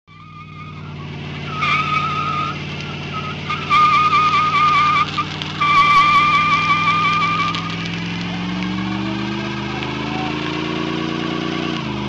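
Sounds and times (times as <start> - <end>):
car engine running hard: 0.1 - 12.0
tyre squealing: 0.1 - 12.0.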